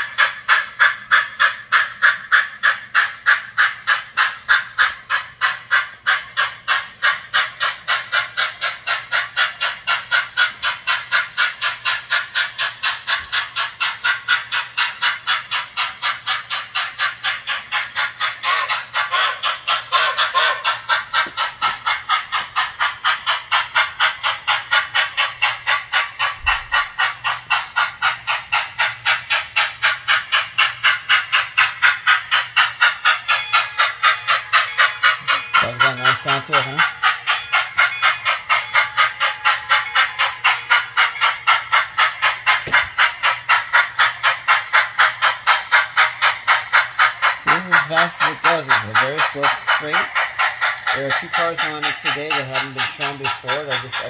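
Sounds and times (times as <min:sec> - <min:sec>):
steam exhaust chuffs from speaker: 0:00.0 - 0:54.0
steam hiss: 0:00.0 - 0:54.0.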